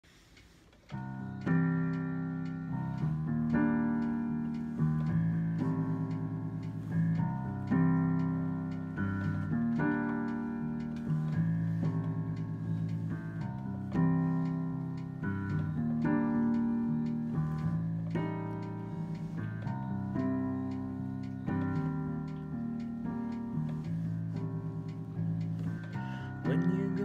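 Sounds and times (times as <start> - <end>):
piano chords: 0.9 - 27.0.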